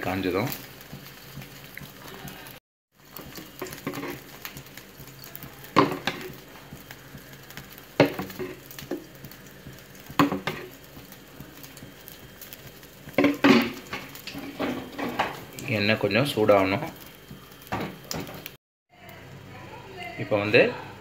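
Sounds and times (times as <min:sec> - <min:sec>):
gas burner hissing: 0:00.0 - 0:20.9.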